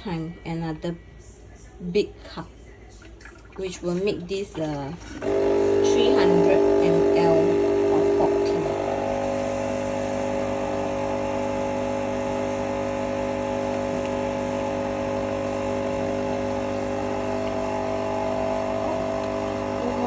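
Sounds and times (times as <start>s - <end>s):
coffee machine pump droning: 3.1s - 20.0s.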